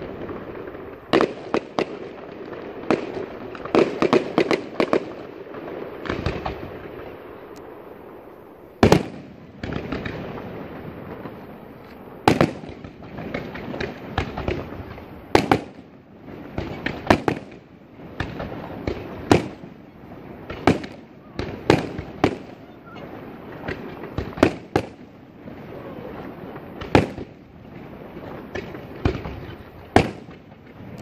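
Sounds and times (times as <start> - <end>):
firework shells bursting: 0.0 - 31.0.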